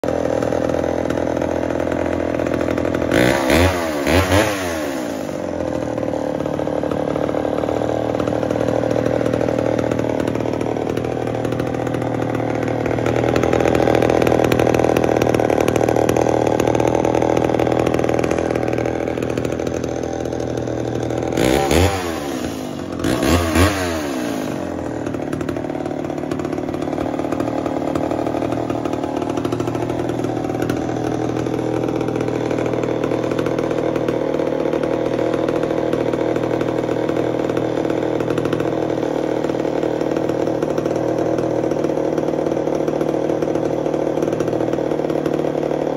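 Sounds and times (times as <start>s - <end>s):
chainsaw idling and revving: 0.0s - 45.9s.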